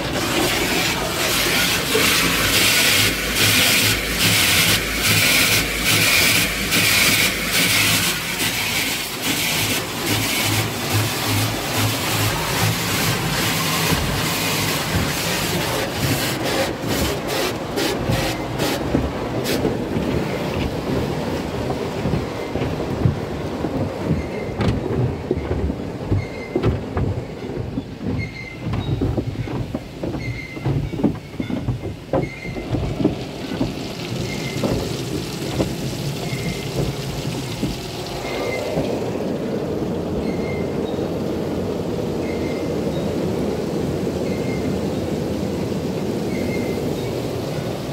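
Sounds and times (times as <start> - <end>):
car wash brushes slapping: 0.0 - 40.2
water spray drumming on car: 0.0 - 47.9.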